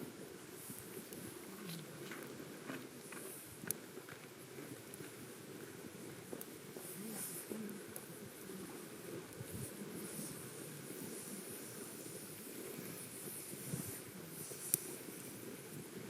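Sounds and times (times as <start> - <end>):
campfire hissing: 0.0 - 16.0
sharp crack of fire: 0.0 - 16.0.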